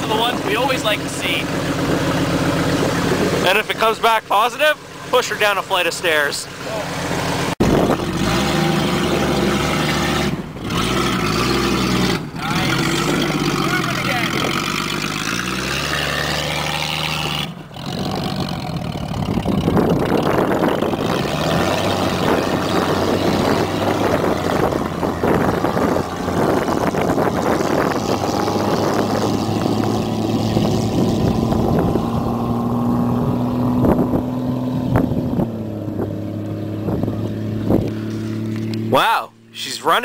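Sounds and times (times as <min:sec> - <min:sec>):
car engine running with clatter: 0:00.0 - 0:40.0.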